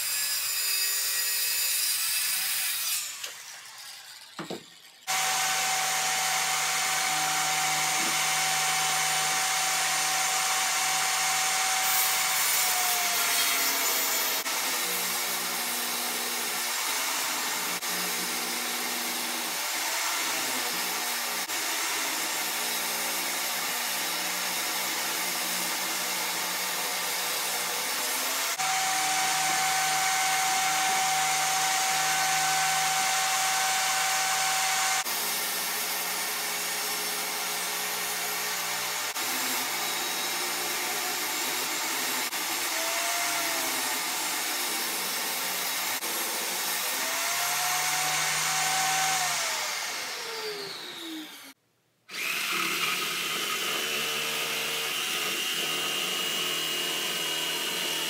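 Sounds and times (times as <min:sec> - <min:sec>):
high-pitched power tool: 0:00.0 - 0:22.7, 0:27.2 - 0:35.8, 0:37.5 - 0:58.0
table saw cutting wood: 0:00.0 - 0:58.0.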